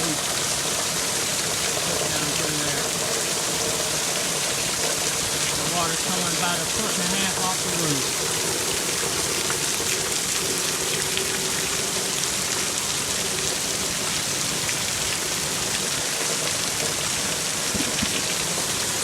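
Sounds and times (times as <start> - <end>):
hard rain hissing: 0.0 - 19.0
water pouring off roof: 0.0 - 19.0.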